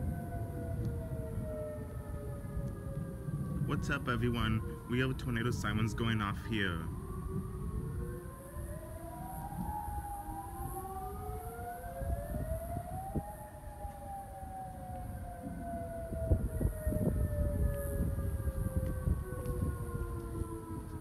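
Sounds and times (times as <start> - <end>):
warning sirens wailing: 0.0 - 21.0.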